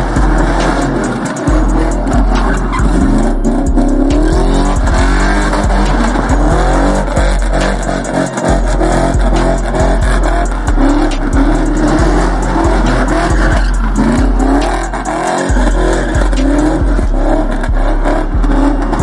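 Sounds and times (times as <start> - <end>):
car engines revving: 0.0 - 19.0
music with heavy bass beat: 0.0 - 19.0
tire squeal: 0.0 - 19.0.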